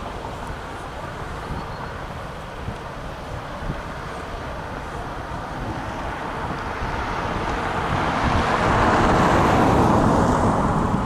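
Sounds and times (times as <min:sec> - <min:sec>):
diesel locomotive engine working hard: 0:00.0 - 0:11.0.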